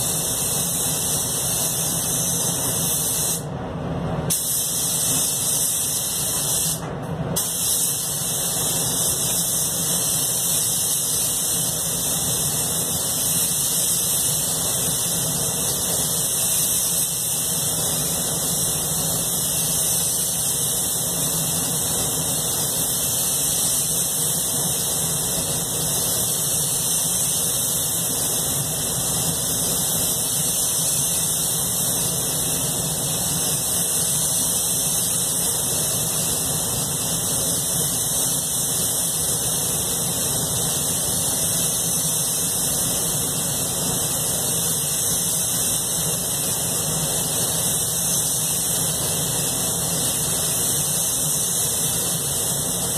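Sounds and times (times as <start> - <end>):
spray gun hissing: 0.0 - 3.5, 4.3 - 6.8, 7.4 - 52.9.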